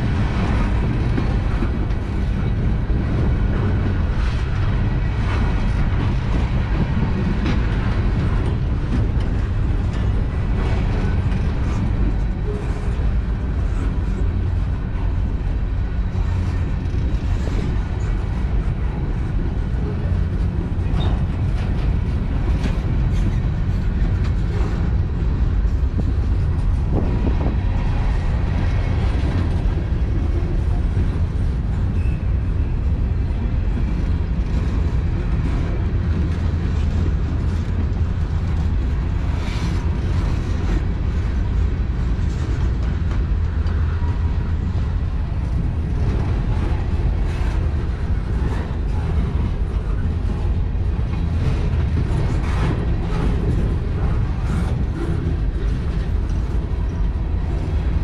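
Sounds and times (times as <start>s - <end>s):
train clicks and clanks: 0.0s - 58.0s
train wheels rumbling on rail: 0.0s - 58.0s.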